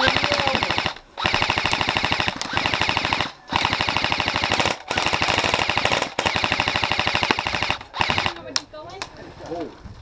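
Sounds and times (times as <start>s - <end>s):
airsoft rifle firing bursts: 0.0s - 8.6s.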